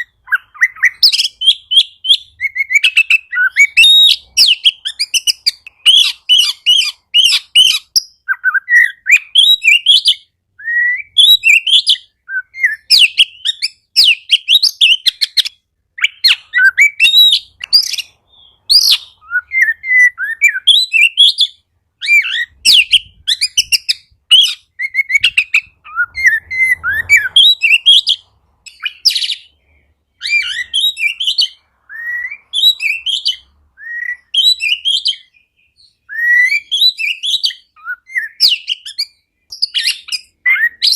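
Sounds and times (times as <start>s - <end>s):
songbird whistling and chirping: 0.0s - 40.9s.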